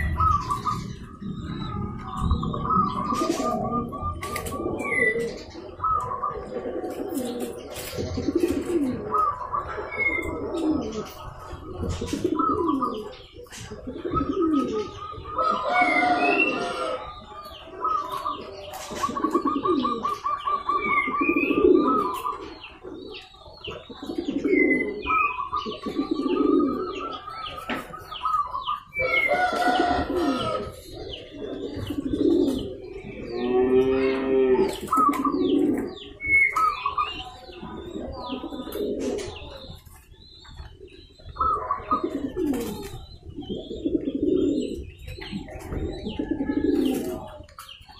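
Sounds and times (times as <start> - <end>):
bird trilling and chirping: 0.0 - 47.9
doves cooing: 0.0 - 47.9.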